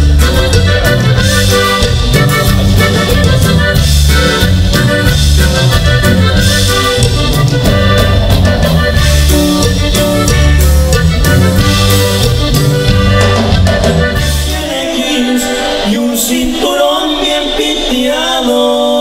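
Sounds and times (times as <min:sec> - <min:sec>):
accordion melody: 0:00.0 - 0:18.3
band playing live: 0:00.0 - 0:19.0.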